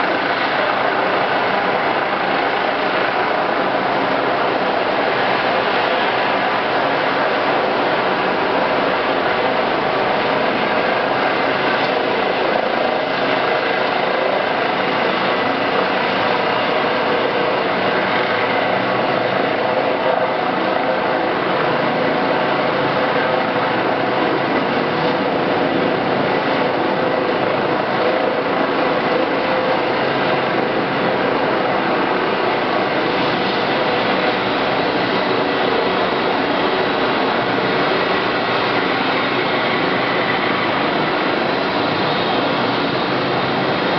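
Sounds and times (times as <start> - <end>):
helicopter turbine engines idling: 0.0 - 43.9.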